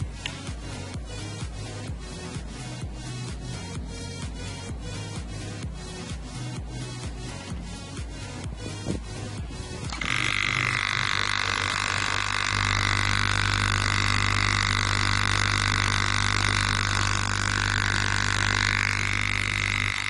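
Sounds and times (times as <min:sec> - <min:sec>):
compressor motor humming: 0:00.0 - 0:20.0
high even whine: 0:00.0 - 0:20.0.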